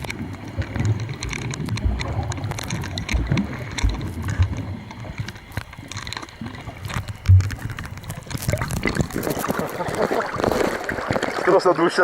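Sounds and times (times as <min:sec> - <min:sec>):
scattered clicks: 0:00.0 - 0:10.1
water sloshing and gurgling: 0:00.0 - 0:12.0.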